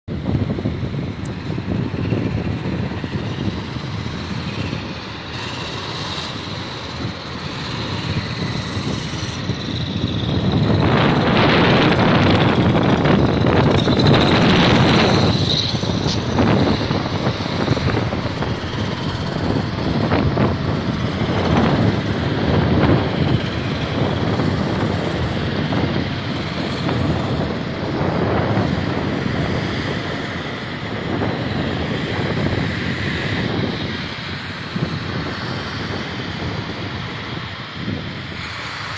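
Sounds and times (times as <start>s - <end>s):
heavy vehicles rumbling past: 0.0s - 38.9s.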